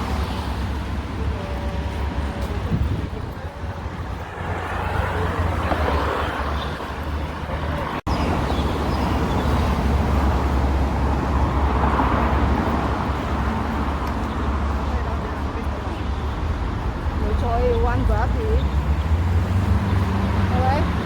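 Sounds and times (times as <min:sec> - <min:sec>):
cars passing by: 0:00.0 - 0:21.0
low traffic rumble: 0:00.0 - 0:21.0.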